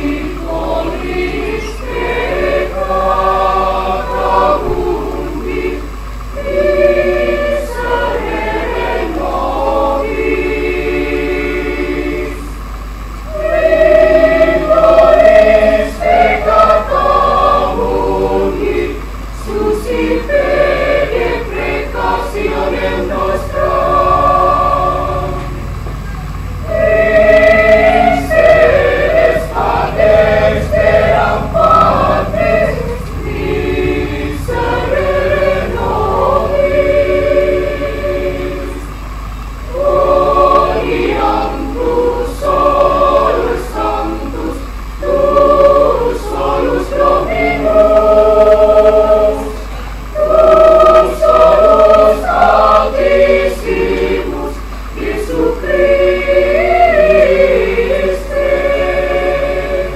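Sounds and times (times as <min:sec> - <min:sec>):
mixed choir singing: 0:00.0 - 0:59.9.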